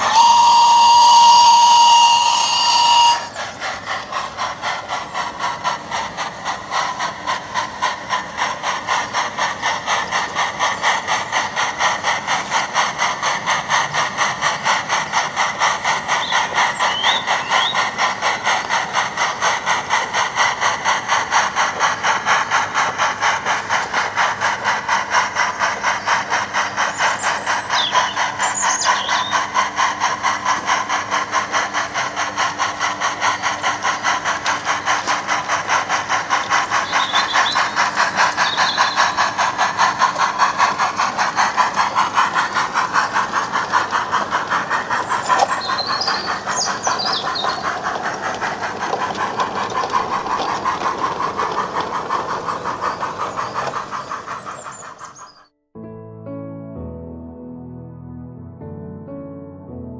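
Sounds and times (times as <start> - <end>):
model steam locomotive chuffing: 0.0 - 55.6.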